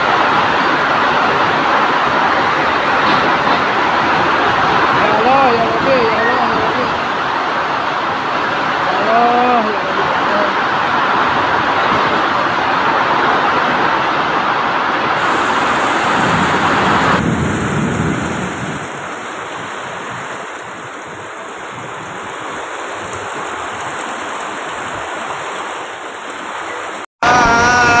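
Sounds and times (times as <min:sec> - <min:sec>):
heavy rain: 0:00.0 - 0:28.0
strong wind: 0:00.0 - 0:28.0.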